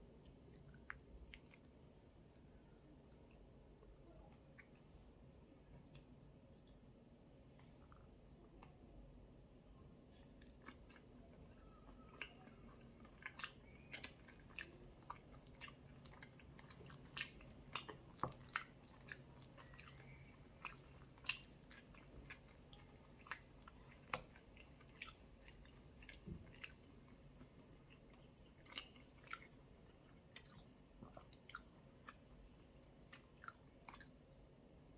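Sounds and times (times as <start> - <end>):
soft chewing: 0.0 - 34.9.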